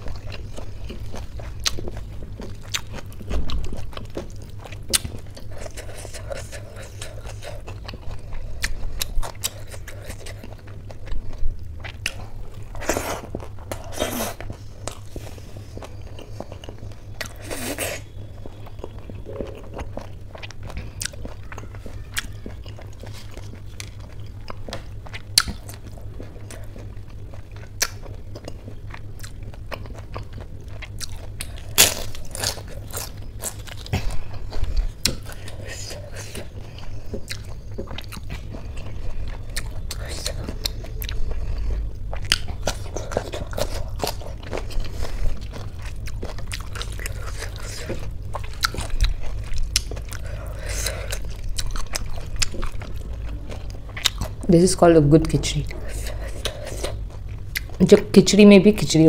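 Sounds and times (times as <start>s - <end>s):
wet chewing and mouth clicks: 0.0s - 54.6s, 55.2s - 58.0s.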